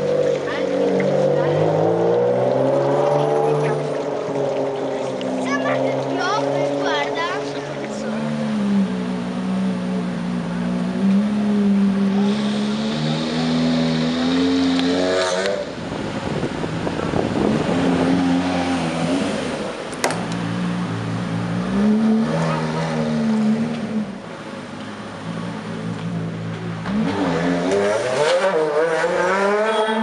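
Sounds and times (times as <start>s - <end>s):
car engine running at low revs: 0.0s - 29.9s.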